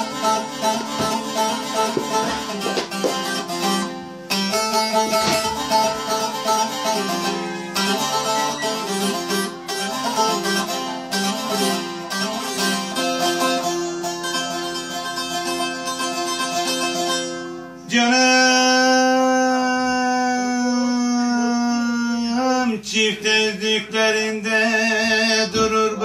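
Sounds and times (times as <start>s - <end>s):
plucked saz folk melody: 0.0s - 26.0s.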